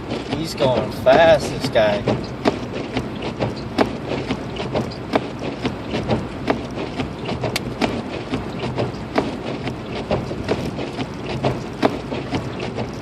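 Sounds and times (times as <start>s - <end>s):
snow and ice ticking on car: 0.0s - 13.0s
tyre and road noise: 0.0s - 13.0s.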